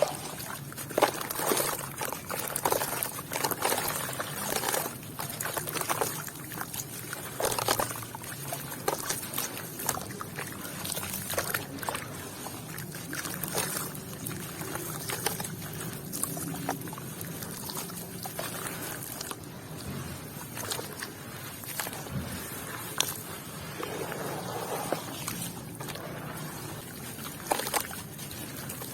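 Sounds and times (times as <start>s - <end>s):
water trickling and pouring: 0.0s - 28.9s.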